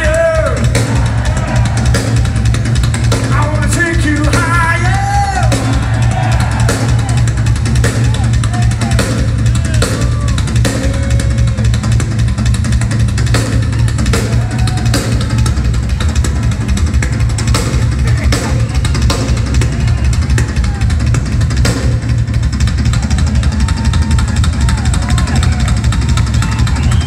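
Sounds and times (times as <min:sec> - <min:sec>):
bass drum: 0:00.0 - 0:27.0.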